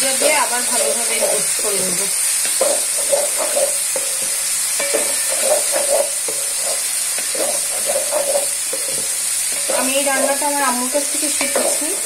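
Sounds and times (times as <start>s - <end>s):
spice paste sizzling in oil: 0.0s - 12.0s
wooden spatula scraping a pan: 0.0s - 12.0s.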